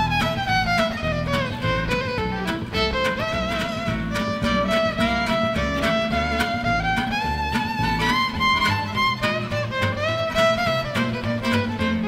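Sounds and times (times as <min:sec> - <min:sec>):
acoustic guitars strumming: 0:00.0 - 0:12.0
upright double bass: 0:00.0 - 0:12.0
violin melody: 0:00.0 - 0:12.0.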